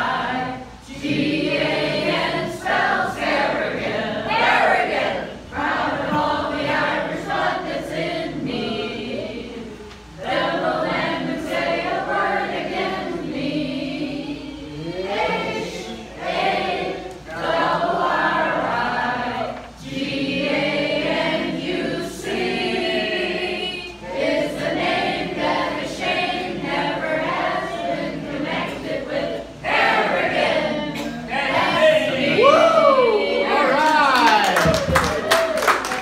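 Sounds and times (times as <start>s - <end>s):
roomful of voices singing: 0.0s - 35.2s.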